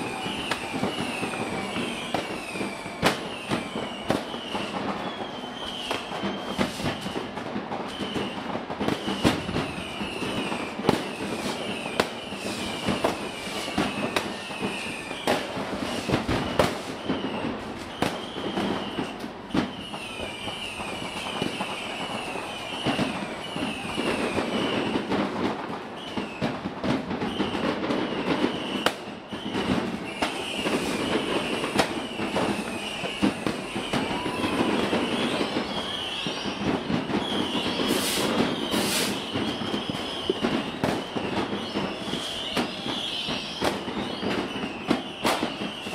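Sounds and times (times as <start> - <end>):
high-pitched falling whistles: 0.0 - 25.2, 27.2 - 45.9
fireworks bangs and crackling: 0.0 - 45.9.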